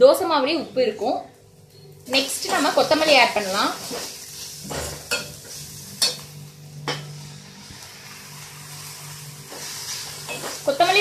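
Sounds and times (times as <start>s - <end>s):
vegetables sizzling in oil: 1.6s - 11.0s.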